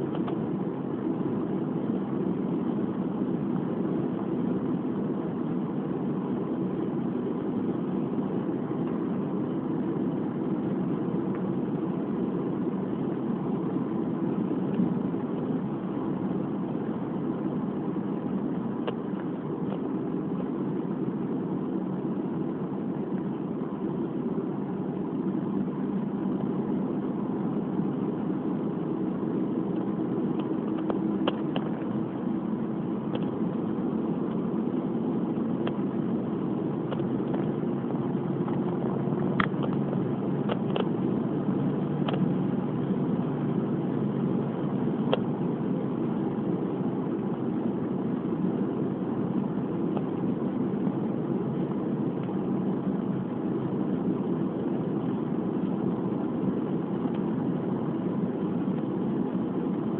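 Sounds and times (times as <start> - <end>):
road and engine drone in car: 0.0 - 59.9.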